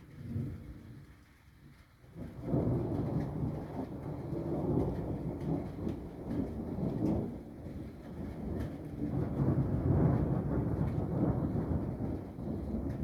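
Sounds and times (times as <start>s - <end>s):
thunder rolling rumble: 2.2s - 13.0s.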